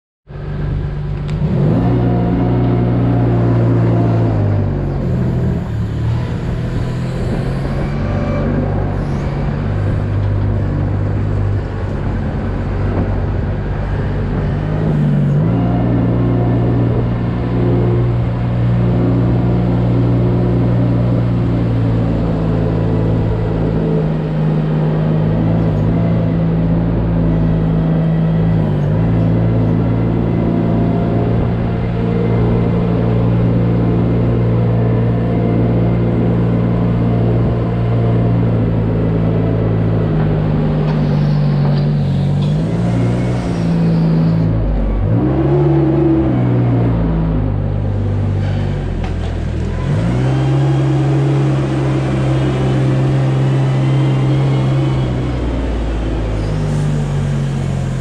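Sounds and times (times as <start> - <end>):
diesel engine running under load: 0.3 - 58.0
loader scraping manure: 2.3 - 46.6, 47.8 - 58.0.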